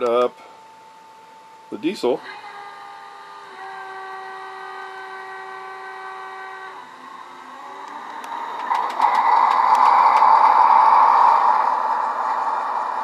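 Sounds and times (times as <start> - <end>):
steady multi-tone hum: 0.0 - 13.0.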